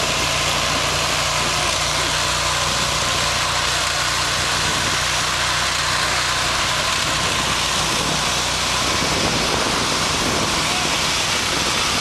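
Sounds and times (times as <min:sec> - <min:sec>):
engine running hard: 0:00.0 - 0:12.0
tyres spinning on pavement: 0:00.0 - 0:12.0.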